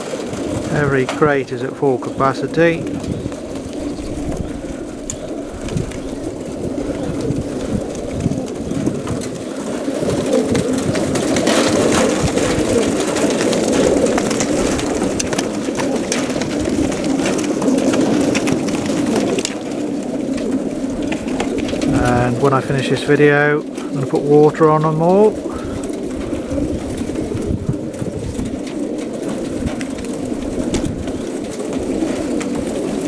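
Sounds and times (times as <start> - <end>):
birds scuffling in crates: 0.0 - 33.0
pigeons cooing: 0.0 - 33.0.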